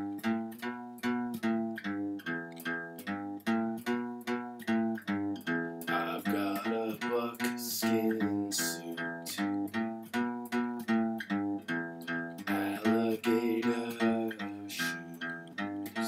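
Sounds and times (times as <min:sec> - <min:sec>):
guitar music: 0:00.0 - 0:16.0.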